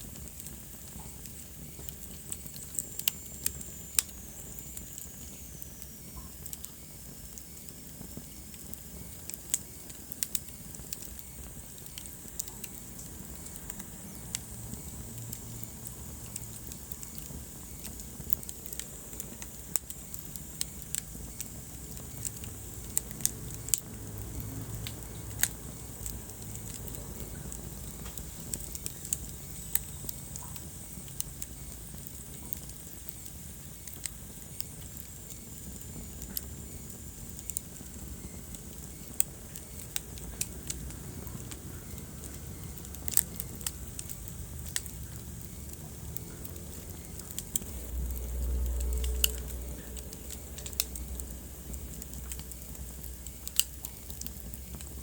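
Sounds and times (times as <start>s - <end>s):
fire crackling and popping: 0.0s - 55.0s
low rumble of flame: 0.0s - 55.0s.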